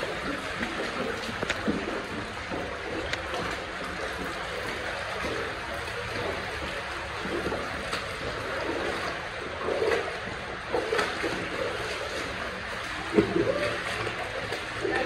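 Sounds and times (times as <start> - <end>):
water flowing: 0.0 - 15.0.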